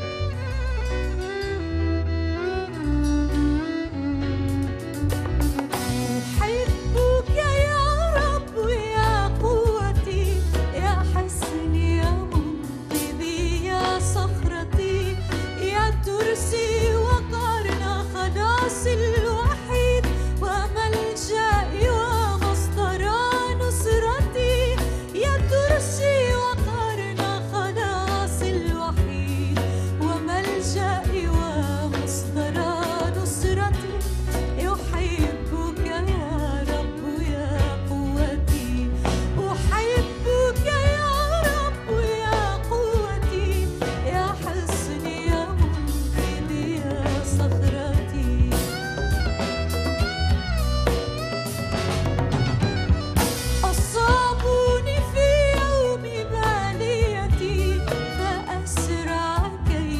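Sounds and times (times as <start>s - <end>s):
band with heavy bass: 0.0s - 29.9s, 30.5s - 59.9s
woman singing with vibrato: 6.3s - 49.4s, 53.6s - 59.9s.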